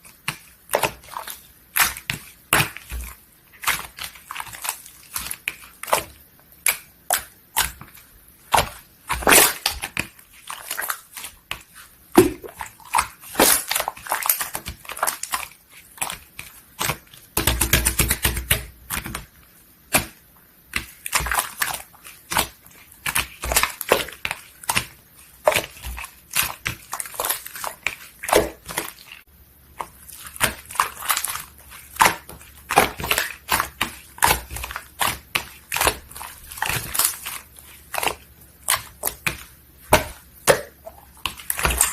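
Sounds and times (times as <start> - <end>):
hands squishing slime: 0.0 - 41.9.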